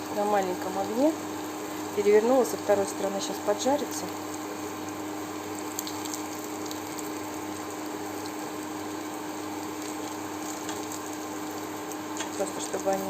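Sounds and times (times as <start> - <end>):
fritters sizzling in oil: 0.0 - 13.0
steady hum: 0.0 - 13.0.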